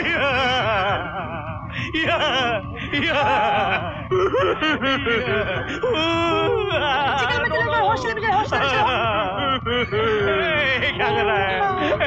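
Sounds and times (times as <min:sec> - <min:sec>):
man laughing loudly: 0:00.0 - 0:07.6, 0:08.4 - 0:12.0.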